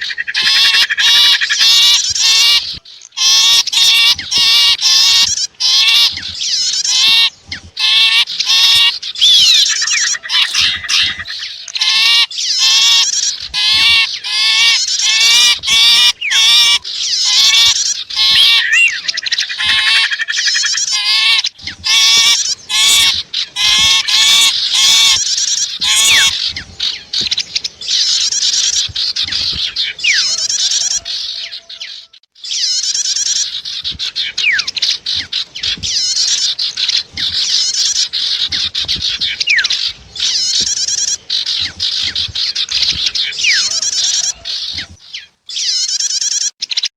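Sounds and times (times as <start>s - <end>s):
high bird twittering: 0.0s - 46.9s.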